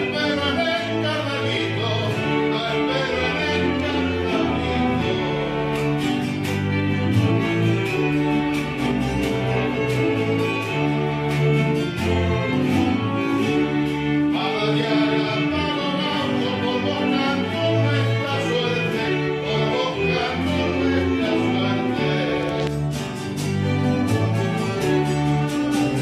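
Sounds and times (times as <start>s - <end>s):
string ensemble playing: 0.0s - 26.0s.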